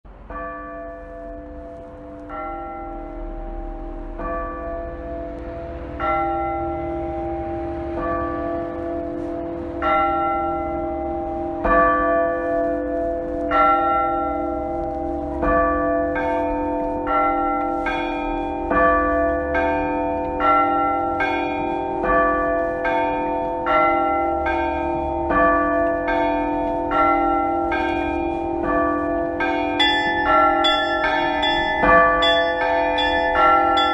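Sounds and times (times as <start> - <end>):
church bells rung by hand: 0.1 - 33.9.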